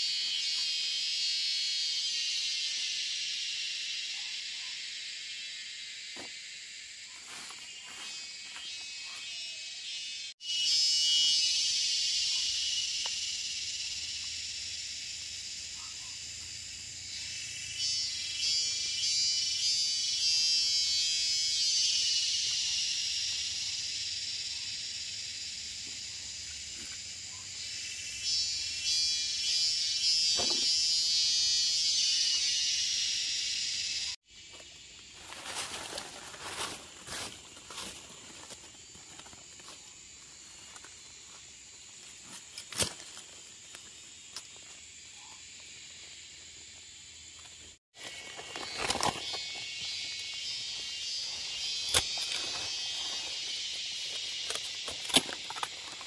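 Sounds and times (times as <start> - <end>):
insects buzzing shrilly: 0.0 - 56.0.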